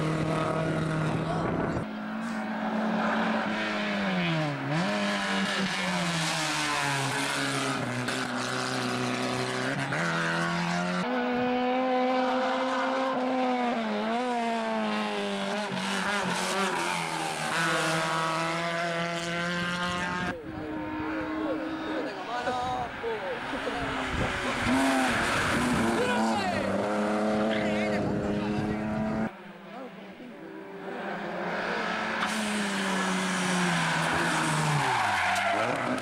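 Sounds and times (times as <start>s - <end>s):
race car engines revving: 0.0s - 36.0s.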